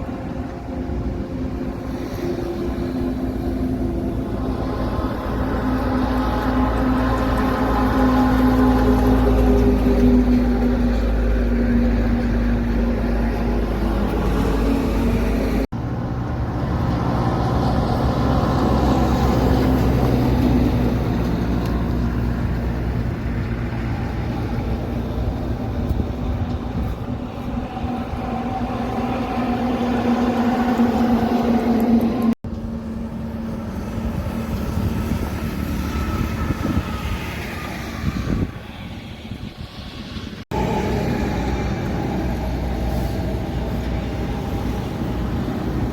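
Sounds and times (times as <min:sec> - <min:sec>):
truck engines running: 0:00.0 - 0:45.9.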